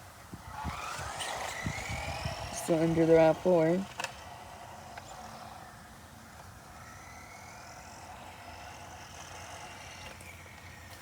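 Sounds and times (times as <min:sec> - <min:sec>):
rc car motor whine: 0:00.0 - 0:11.0.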